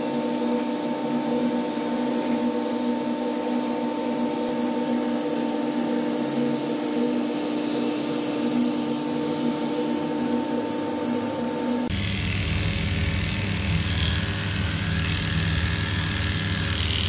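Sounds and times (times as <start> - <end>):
electric clippers humming: 0.0 - 17.0.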